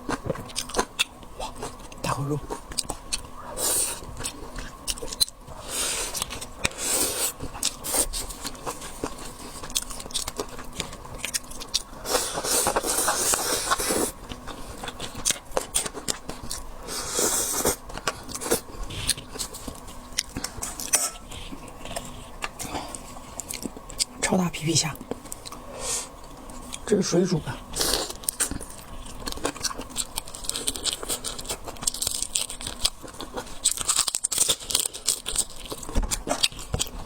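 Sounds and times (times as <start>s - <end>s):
wet chewing of seafood: 0.0s - 24.2s, 24.8s - 37.0s.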